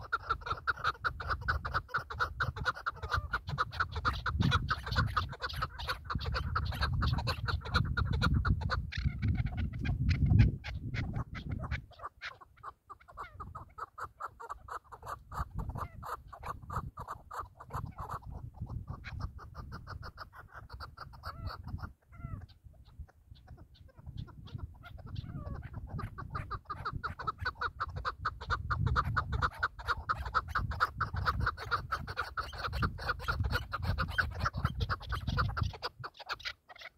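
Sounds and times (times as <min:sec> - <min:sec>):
wind rumble on microphone: 0:00.0 - 0:11.9, 0:13.2 - 0:13.8, 0:15.0 - 0:36.1.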